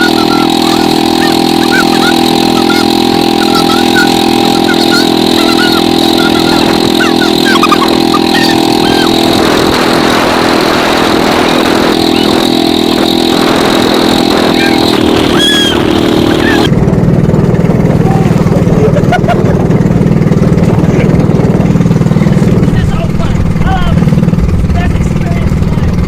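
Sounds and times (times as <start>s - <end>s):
motor engine running: 0.0s - 26.0s.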